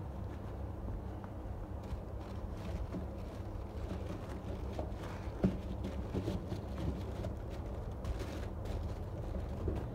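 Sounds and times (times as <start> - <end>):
rustling and handling: 1.8 - 9.9.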